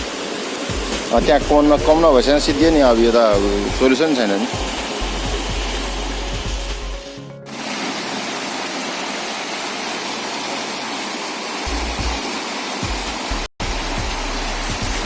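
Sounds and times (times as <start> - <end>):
heavy rain and rushing water: 0.0 - 15.0.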